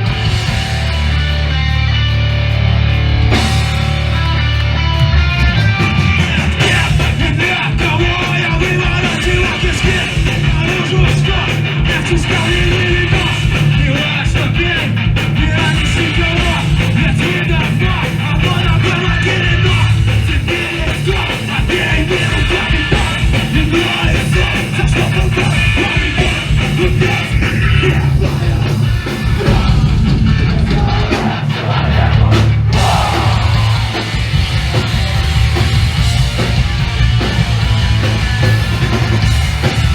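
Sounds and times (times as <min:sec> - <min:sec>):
distorted guitars: 0:00.0 - 0:39.9
pounding drums: 0:00.0 - 0:39.9.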